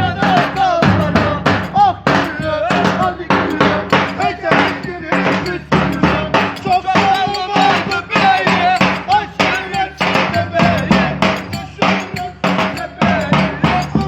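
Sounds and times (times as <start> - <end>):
driving drum beat: 0.0 - 14.0.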